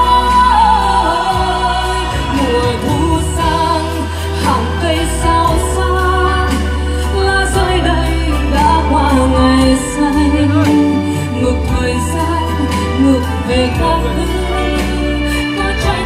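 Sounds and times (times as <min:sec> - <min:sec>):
song with heavy bass over speakers: 0:00.0 - 0:16.0.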